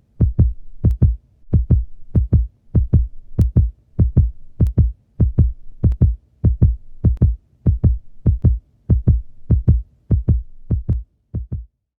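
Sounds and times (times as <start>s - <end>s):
heartbeat thumps: 0.1s - 11.7s.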